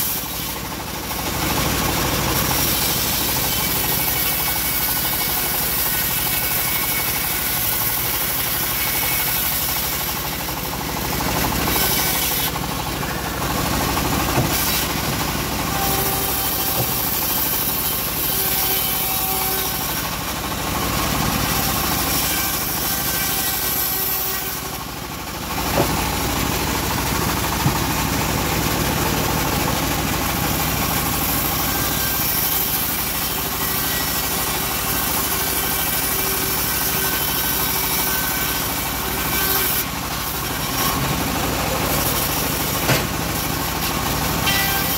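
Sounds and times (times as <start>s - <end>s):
bandsaw mill cutting wood: 0.0s - 44.9s.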